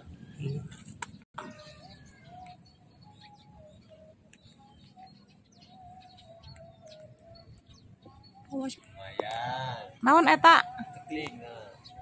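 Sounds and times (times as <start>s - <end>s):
faint bird calls: 1.4s - 12.0s.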